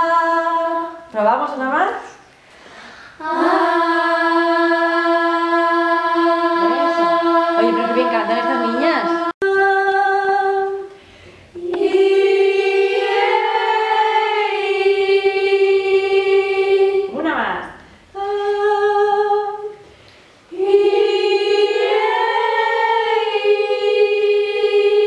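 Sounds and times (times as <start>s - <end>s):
girls singing held note: 3.1s - 17.1s, 17.9s - 25.0s.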